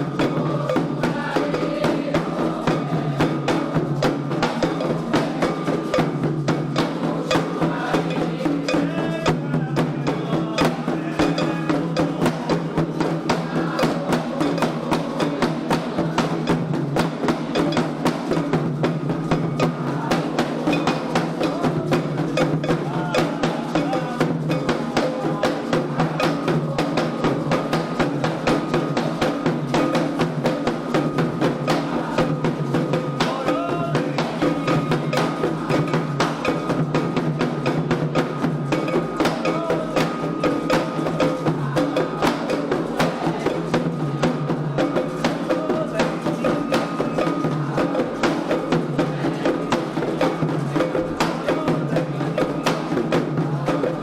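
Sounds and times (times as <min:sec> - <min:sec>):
struck bell: 0:00.0 - 0:53.0
hand drums playing rhythm: 0:00.0 - 0:54.0.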